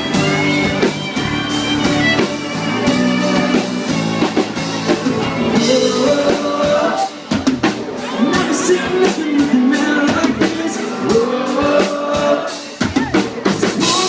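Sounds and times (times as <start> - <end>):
electric guitar: 0.0 - 14.0
steady drum beat: 0.0 - 14.0.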